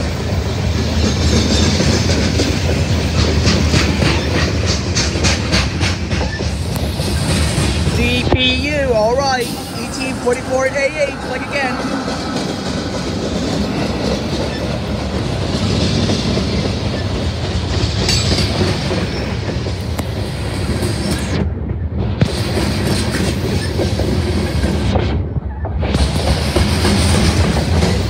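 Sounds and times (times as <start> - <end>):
clickety-clack over rail joints: 0.0 - 28.0
locomotive passing: 0.0 - 28.0
rumble of train wheels: 0.0 - 28.0.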